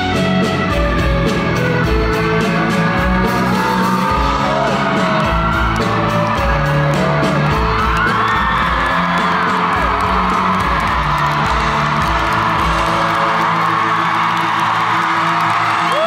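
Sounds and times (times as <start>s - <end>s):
live band playing: 0.0s - 16.0s
steady drum beat: 0.0s - 16.0s
fans whooping: 0.7s - 16.0s.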